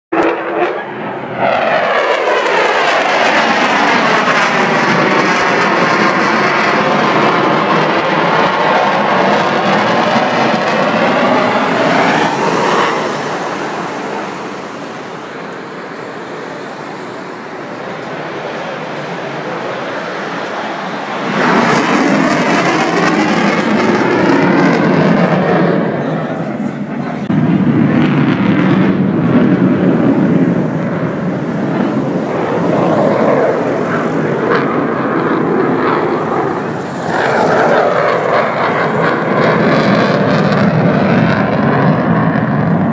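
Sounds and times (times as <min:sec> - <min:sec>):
jet engine passing: 0:00.1 - 0:42.9.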